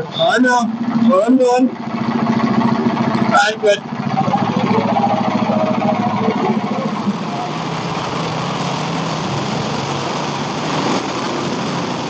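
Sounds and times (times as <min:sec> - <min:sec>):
small gasoline engine running: 0:00.0 - 0:09.9.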